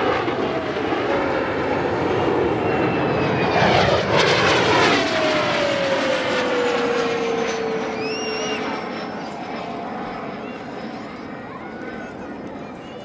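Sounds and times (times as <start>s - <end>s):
jet flying past: 0.0s - 12.8s.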